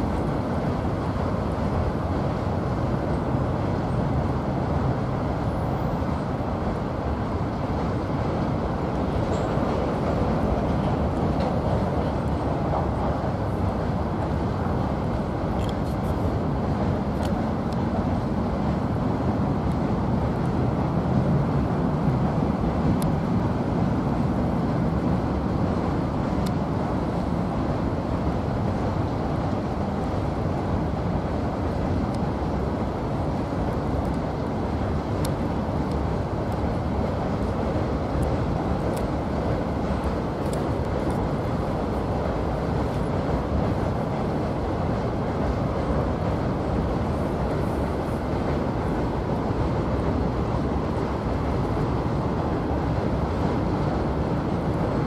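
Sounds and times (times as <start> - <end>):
train wheels rumbling on bridge: 6.0 - 55.0.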